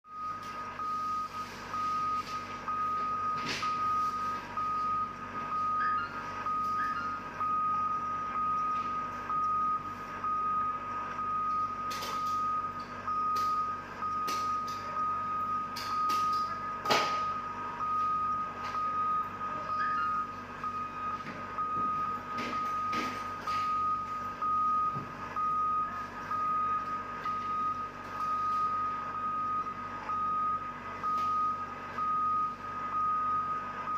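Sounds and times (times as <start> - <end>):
low steady hum: 0.1 - 33.9
vehicle back-up alarm beeping: 0.1 - 33.9.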